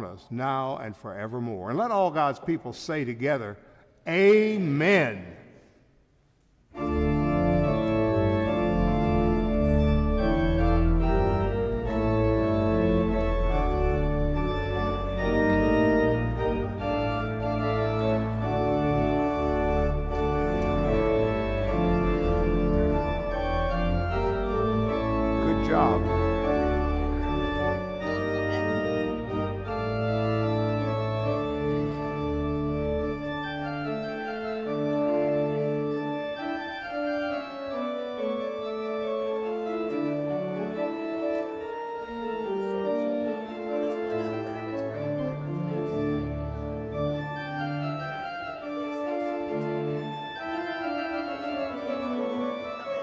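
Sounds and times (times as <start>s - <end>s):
organ sustained chords: 6.7s - 53.0s
deep organ pedal bass notes: 6.8s - 53.0s.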